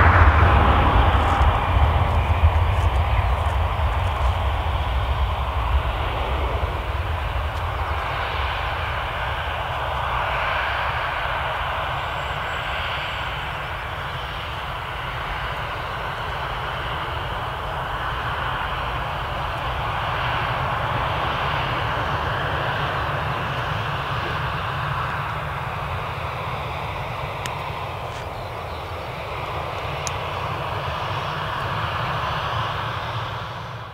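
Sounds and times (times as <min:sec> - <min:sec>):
jet engines at takeoff: 0:00.0 - 0:33.9.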